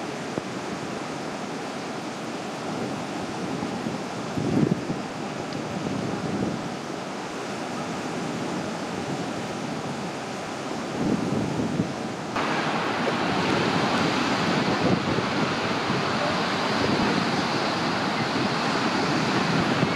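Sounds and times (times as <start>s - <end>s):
surf breaking on beach: 0.0s - 19.9s
wind buffeting microphone: 2.6s - 7.0s, 7.8s - 19.9s.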